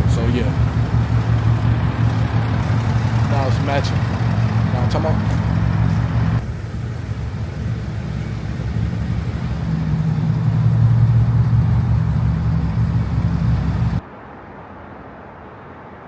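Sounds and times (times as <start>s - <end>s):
deep car exhaust drone: 0.0s - 14.0s.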